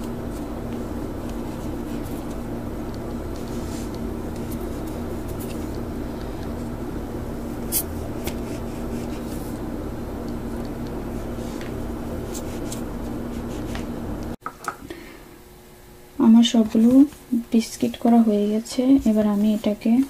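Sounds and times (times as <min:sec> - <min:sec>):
mechanical room hum: 0:00.0 - 0:20.0.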